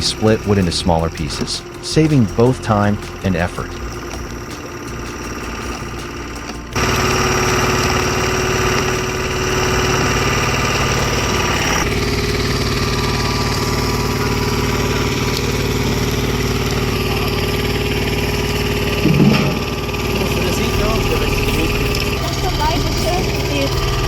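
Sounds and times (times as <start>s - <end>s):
wood splitter engine running: 0.0s - 24.0s.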